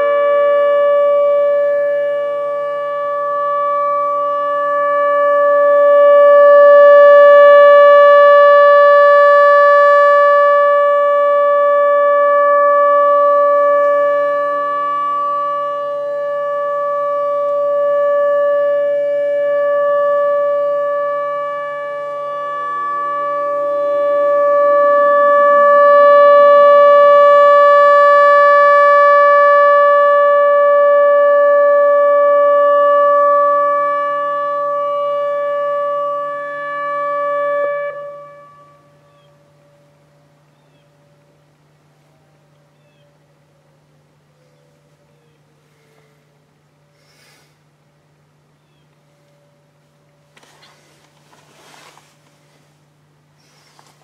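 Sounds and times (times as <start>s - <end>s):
siren steady alert tone: 0.0s - 44.2s.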